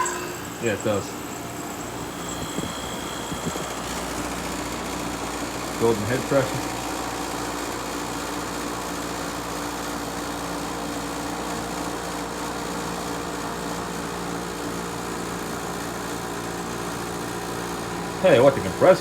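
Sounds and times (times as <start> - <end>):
window air conditioner humming: 0.0 - 19.0.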